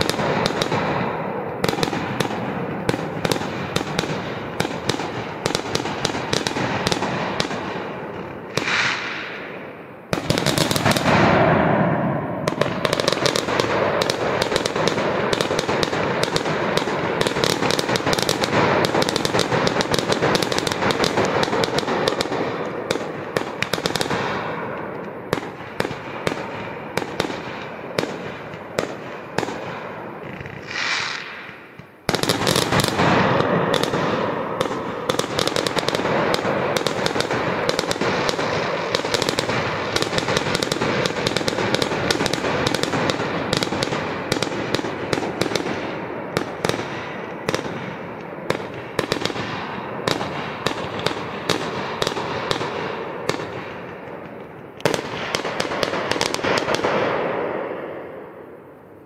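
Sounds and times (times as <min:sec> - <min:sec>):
fireworks banging and crackling: 0:00.0 - 0:59.0.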